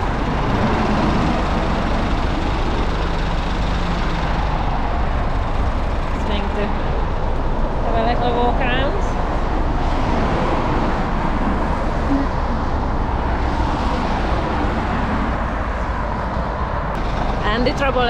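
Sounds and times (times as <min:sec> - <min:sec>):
road traffic rushing: 0:00.0 - 0:18.0.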